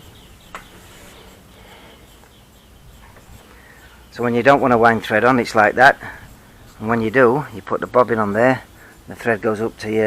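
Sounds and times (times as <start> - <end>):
faint high chirping: 0.0 - 10.0.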